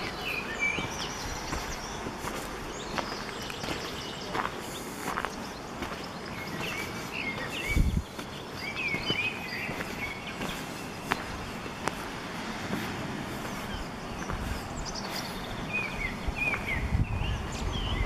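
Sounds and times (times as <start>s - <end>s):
bird chirping: 0.0s - 12.3s, 13.3s - 18.0s
footsteps on tarmac: 0.0s - 17.8s
outdoor background noise: 0.0s - 18.0s.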